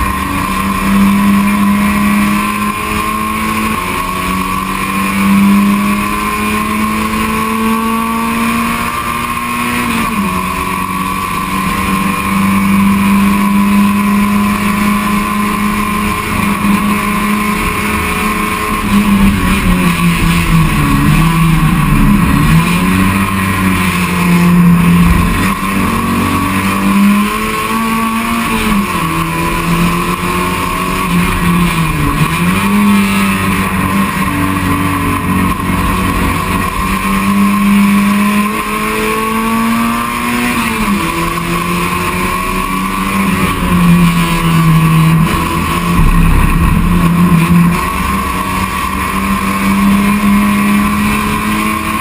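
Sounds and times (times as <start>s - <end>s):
race car engine at high revs: 0.0s - 52.0s.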